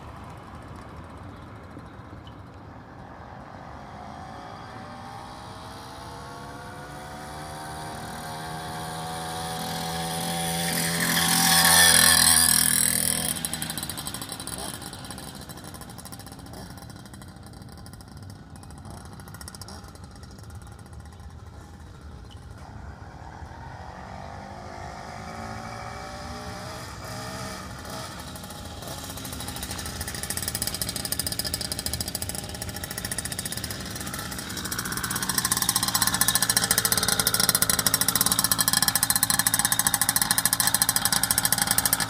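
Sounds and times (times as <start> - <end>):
two-stroke motorbike engine approaching: 0.0 - 42.0.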